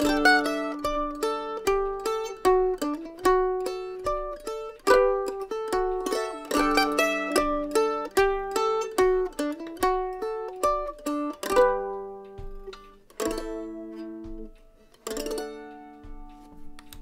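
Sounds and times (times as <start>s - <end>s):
mandolin chords ringing: 0.0s - 17.0s
mandolin single notes: 0.0s - 17.0s.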